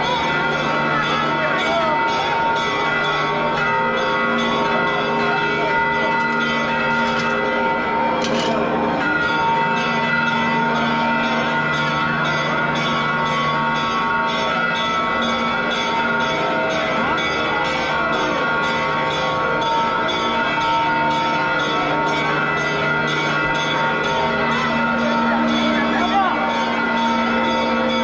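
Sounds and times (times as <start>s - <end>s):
church bells pealing: 0.0s - 28.0s
crowd chatter: 0.0s - 28.0s.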